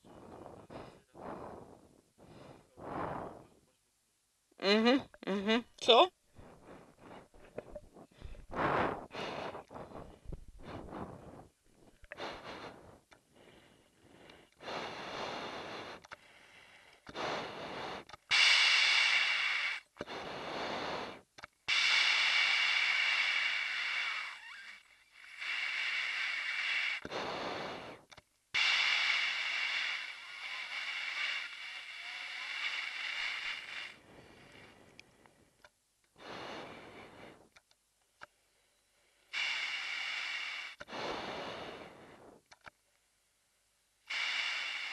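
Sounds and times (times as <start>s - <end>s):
breathing through oxygen mask: 0.0s - 3.6s, 6.4s - 35.4s, 36.2s - 37.5s, 39.2s - 42.6s, 44.1s - 44.9s.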